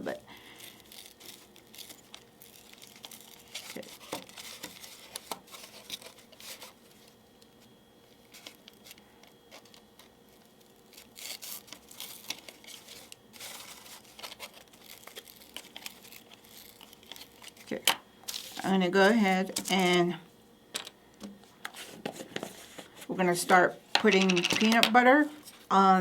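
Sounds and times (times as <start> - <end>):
cardboard and paper rustling: 0.0 - 20.2, 21.7 - 25.7.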